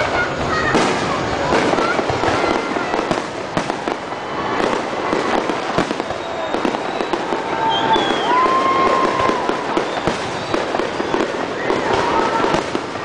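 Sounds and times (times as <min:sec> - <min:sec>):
fireworks banging and crackling: 0:00.0 - 0:13.0
whistling fireworks: 0:00.0 - 0:13.0.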